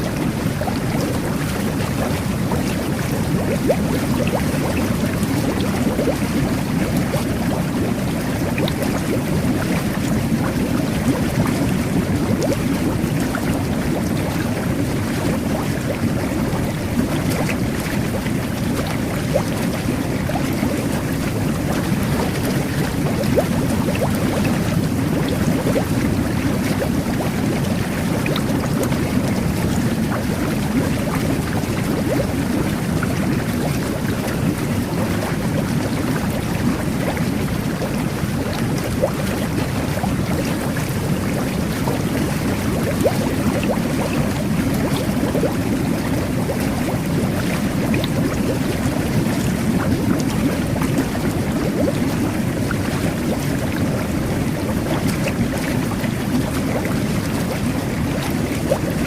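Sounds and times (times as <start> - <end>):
whirlpool jets churning water: 0.0 - 59.0.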